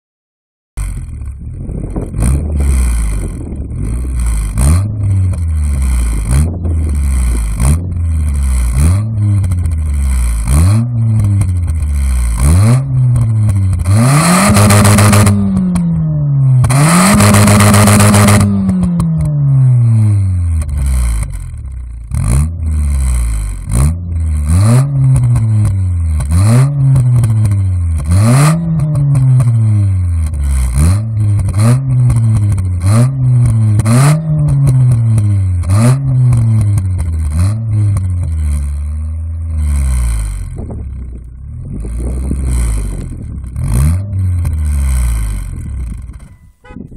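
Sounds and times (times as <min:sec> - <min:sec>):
car engine revving: 0:00.8 - 0:46.8.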